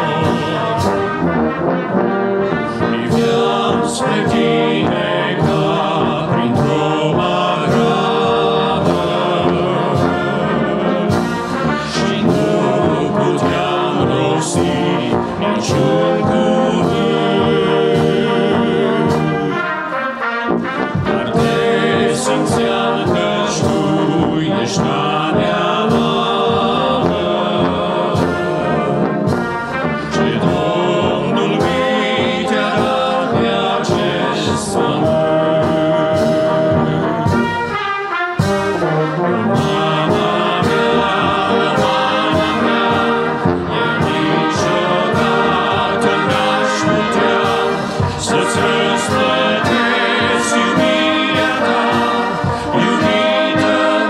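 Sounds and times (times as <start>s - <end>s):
brass band playing hymn: 0.0s - 54.0s.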